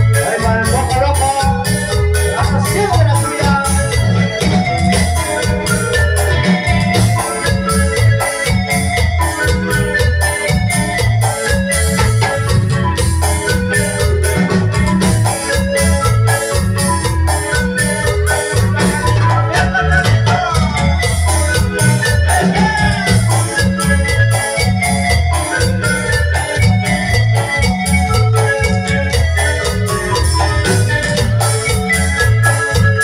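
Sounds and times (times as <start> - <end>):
latin dance music: 0.0 - 33.0.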